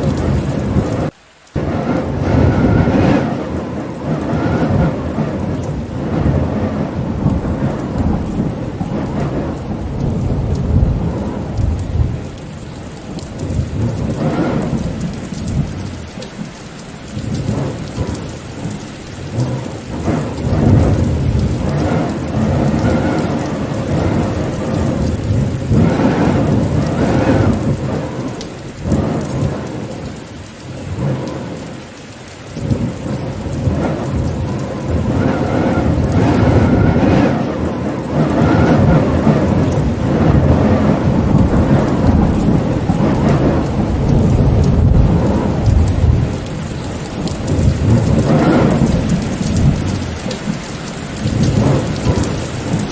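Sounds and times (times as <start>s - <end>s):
rumbling thunder: 0.0s - 31.8s, 32.5s - 52.9s
heavy rain: 0.0s - 52.9s.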